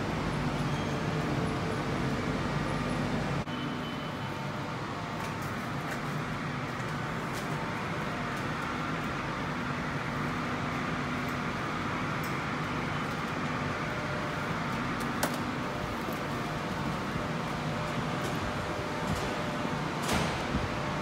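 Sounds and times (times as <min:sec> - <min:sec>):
machinery humming: 0:00.0 - 0:21.0.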